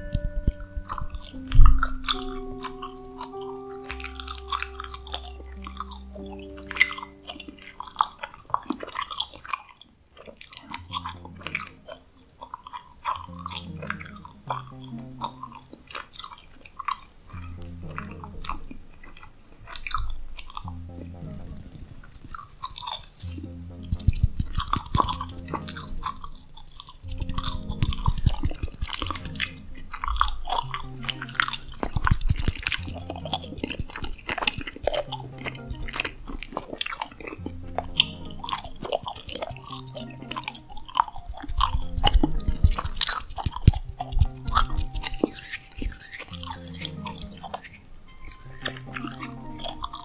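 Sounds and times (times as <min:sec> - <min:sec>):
soft sustained music notes: 0:00.0 - 0:09.3, 0:10.5 - 0:16.4, 0:17.3 - 0:50.0
gum chewing mouth clicks: 0:00.0 - 0:50.0.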